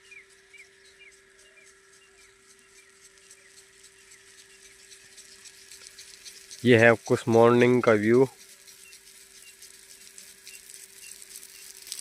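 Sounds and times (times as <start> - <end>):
bird chirping: 0.0 - 12.0
faint steady hum: 0.0 - 12.0.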